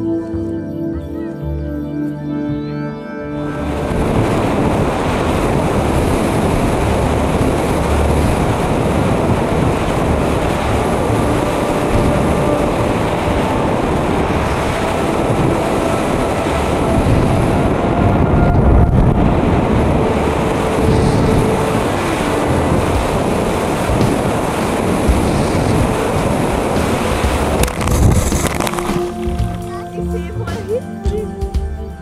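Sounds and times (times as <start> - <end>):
airflow buffeting microphone: 3.4 - 30.8.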